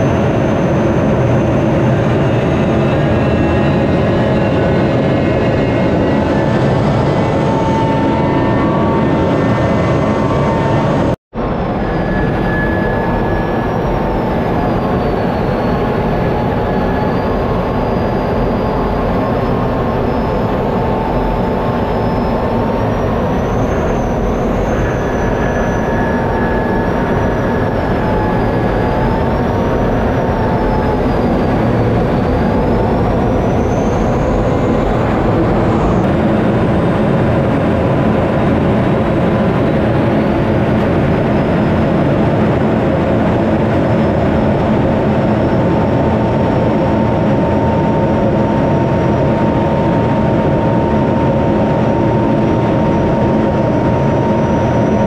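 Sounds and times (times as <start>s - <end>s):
faint wavering whines: 0.0s - 55.0s
jet engine in cockpit: 0.0s - 55.0s.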